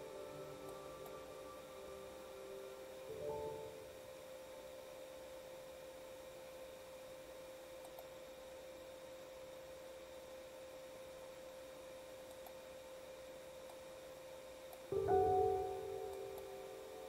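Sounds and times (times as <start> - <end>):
faint steady hum: 0.0 - 17.0
low hiss: 0.0 - 17.0.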